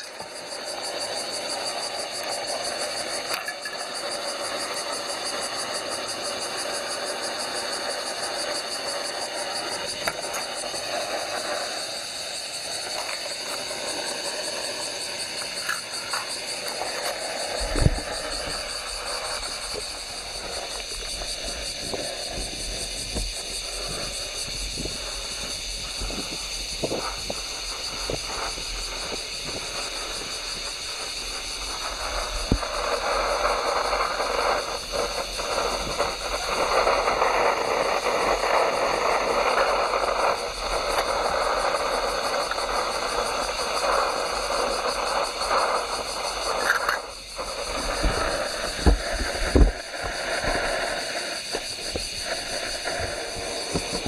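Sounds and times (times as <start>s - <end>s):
camp stove burner hissing: 0.0s - 54.0s
wind buffeting microphone: 7.8s - 54.0s.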